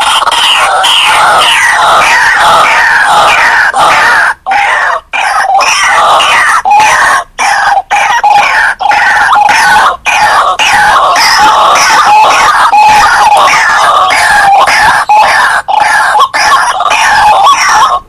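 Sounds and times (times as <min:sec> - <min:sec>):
waterhen calls: 0:00.0 - 0:18.0.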